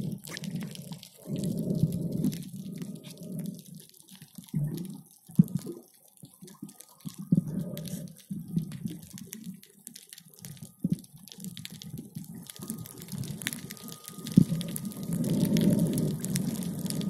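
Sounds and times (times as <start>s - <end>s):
fine crackle of clicks: 0.0s - 17.0s.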